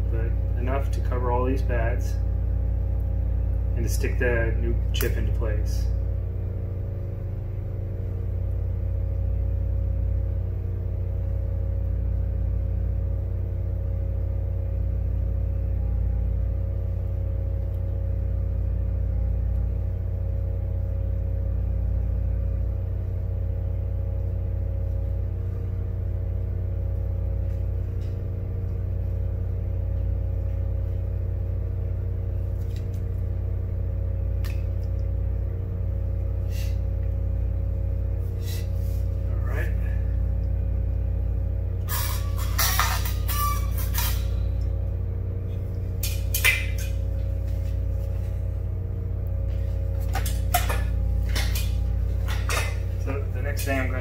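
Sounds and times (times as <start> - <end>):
electrical equipment humming: 0.0 - 54.0.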